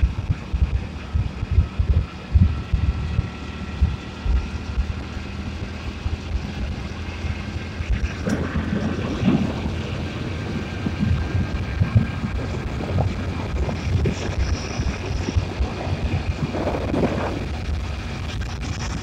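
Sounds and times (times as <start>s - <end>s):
motorcycle engine running: 0.0s - 19.0s
rough rushing noise: 0.0s - 19.0s
wind buffeting microphone: 0.0s - 19.0s.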